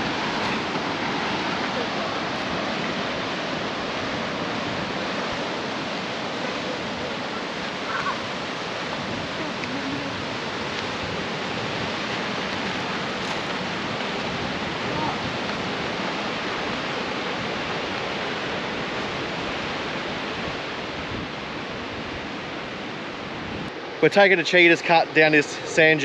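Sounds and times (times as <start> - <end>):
wind buffeting microphone: 0.0 - 23.8
strong wind: 0.0 - 26.0
surf: 0.0 - 26.0.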